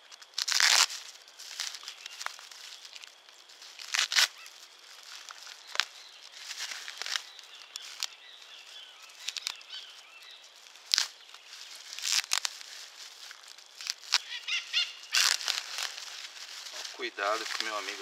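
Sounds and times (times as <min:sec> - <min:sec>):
plastic wrapping tearing and crinkling: 0:00.0 - 0:18.0.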